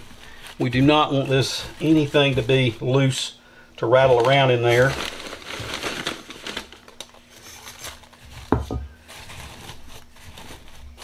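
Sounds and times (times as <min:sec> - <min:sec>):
tissue paper rustling: 0:00.0 - 0:03.3, 0:03.9 - 0:11.0.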